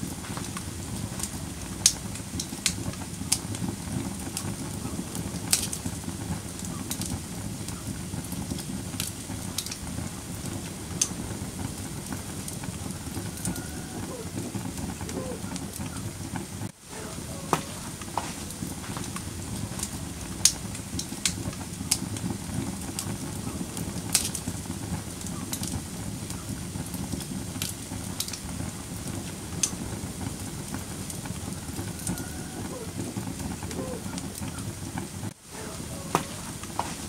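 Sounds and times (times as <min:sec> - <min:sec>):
fire crackling and popping: 0:00.0 - 0:37.0
low rumble of flames: 0:00.0 - 0:37.0.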